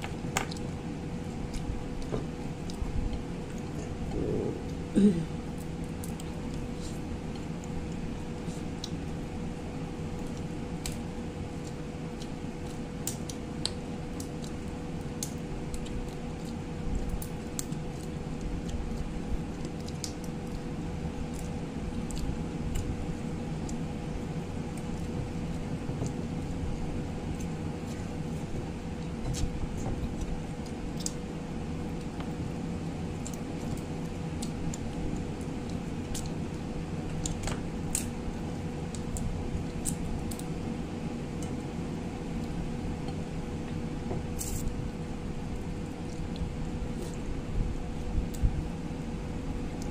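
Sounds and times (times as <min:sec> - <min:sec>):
chewing and wet mouth sounds: 0:00.0 - 0:04.9, 0:05.5 - 0:49.0
steady background hum: 0:00.0 - 0:49.9.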